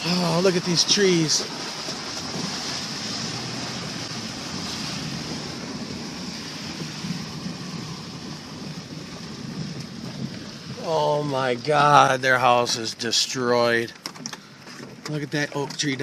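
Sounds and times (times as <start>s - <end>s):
car engine hum: 0.0s - 16.0s
road noise: 0.0s - 16.0s.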